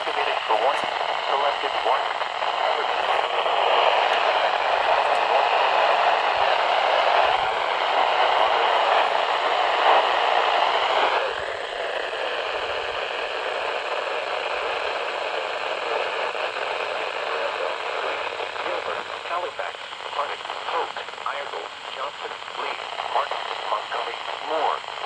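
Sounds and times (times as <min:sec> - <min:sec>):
radio hiss and static: 0:00.0 - 0:25.0.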